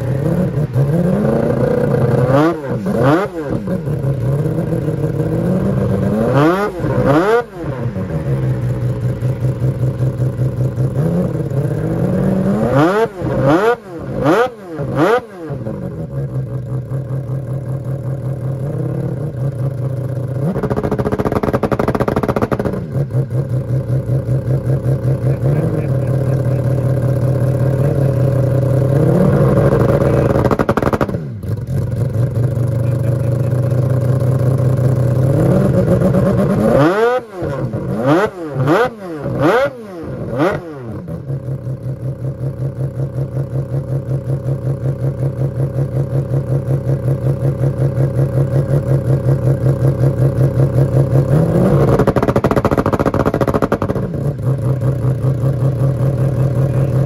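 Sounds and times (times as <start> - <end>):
rotary engine idling: 0.0 - 14.3, 14.9 - 36.9, 41.0 - 57.0
engine throttle blips: 0.0 - 57.0.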